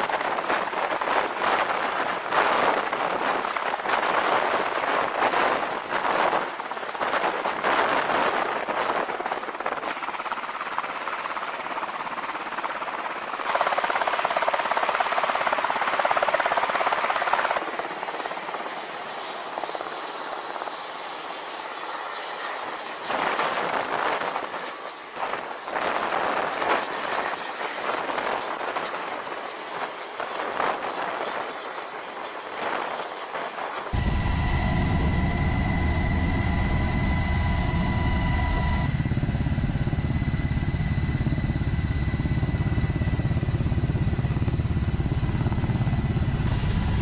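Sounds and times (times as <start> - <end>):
helicopter rotor and turbine: 0.0 - 47.0.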